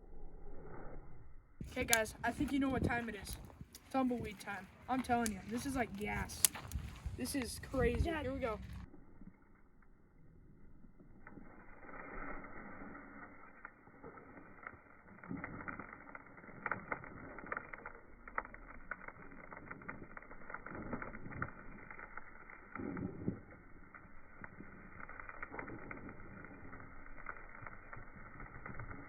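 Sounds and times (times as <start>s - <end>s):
fire rushing noise: 1.6s - 8.9s, 10.9s - 29.0s
fire crackling and popping: 1.6s - 29.0s.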